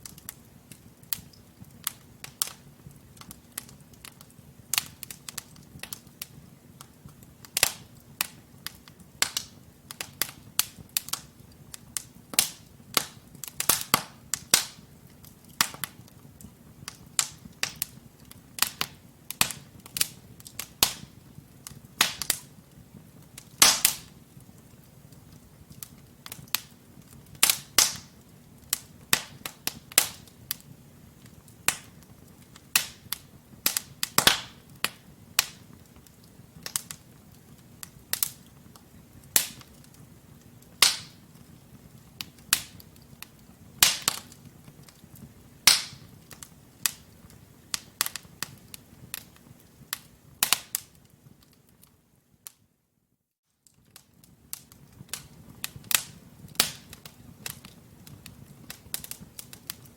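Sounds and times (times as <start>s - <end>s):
low rumble of flames: 0.0s - 52.6s, 53.6s - 59.9s
wood fire crackling and popping: 0.0s - 52.7s, 53.5s - 59.9s.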